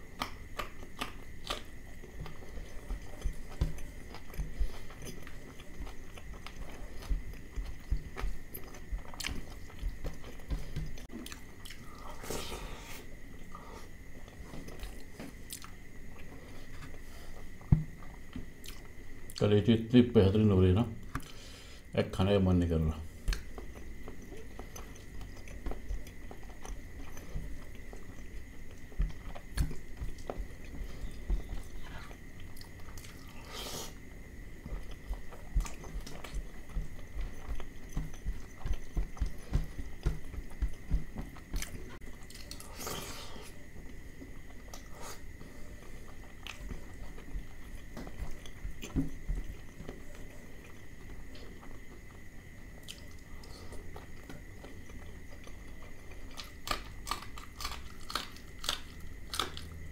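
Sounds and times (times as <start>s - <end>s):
man chewing with wet mouth clicks: 0.0s - 12.2s, 14.2s - 19.4s, 23.2s - 59.9s.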